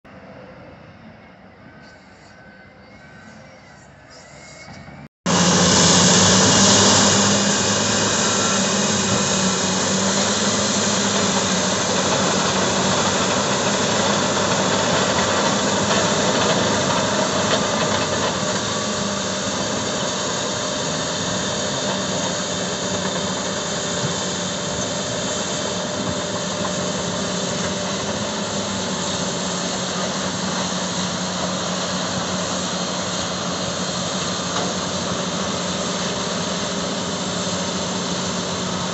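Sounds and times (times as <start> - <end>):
bulldozer diesel engine under load: 0.1 - 38.9.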